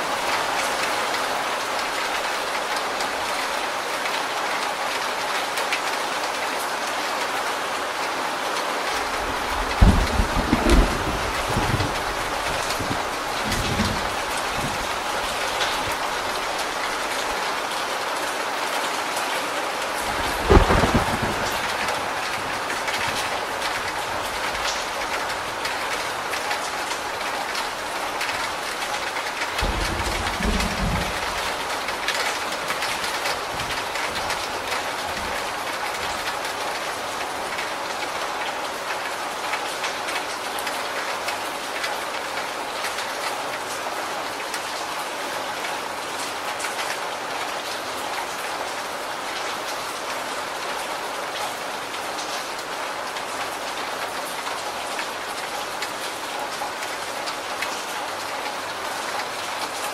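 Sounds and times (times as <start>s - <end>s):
heavy rain running off a roof: 0.0s - 59.9s.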